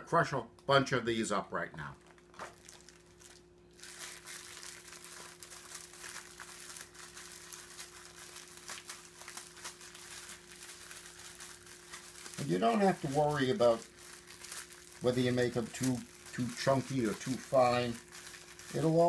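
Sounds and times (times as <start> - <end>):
crackers crushed by hand: 2.0 - 19.0.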